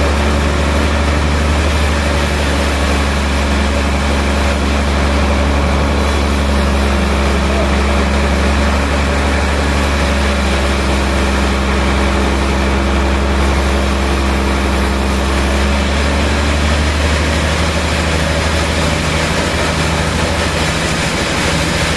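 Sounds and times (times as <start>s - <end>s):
sawmill machinery humming: 0.0s - 21.9s.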